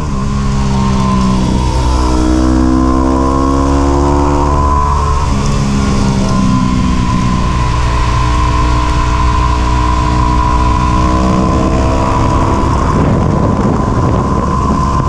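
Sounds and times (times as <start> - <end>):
motorcycle engine running: 0.0 - 15.0
rushing noise: 0.0 - 15.0.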